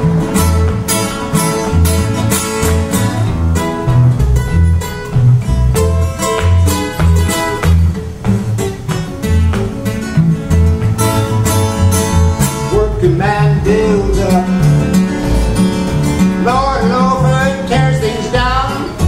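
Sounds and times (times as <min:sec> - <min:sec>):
acoustic guitars playing: 0:00.0 - 0:19.0.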